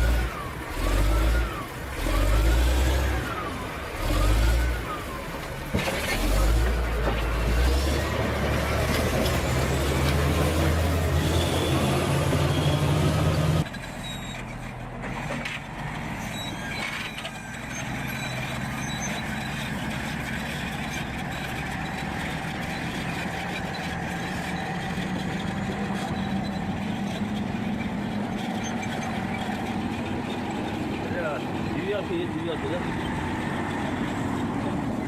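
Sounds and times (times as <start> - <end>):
heavy truck engine running: 0.0 - 35.0.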